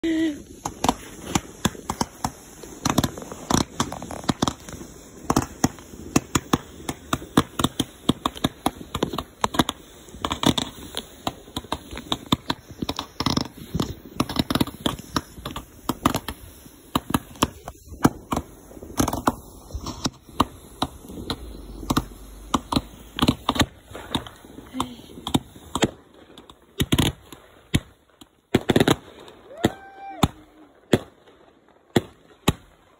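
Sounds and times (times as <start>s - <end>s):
fireworks popping and banging: 0.0s - 32.9s.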